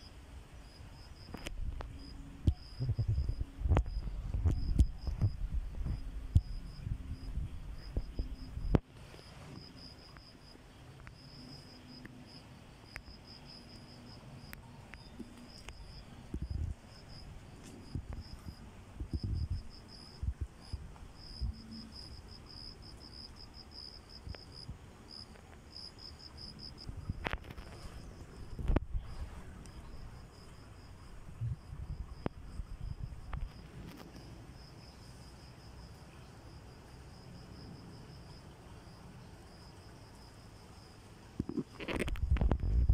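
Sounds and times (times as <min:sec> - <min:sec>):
insect chirping: 0:00.0 - 0:42.9.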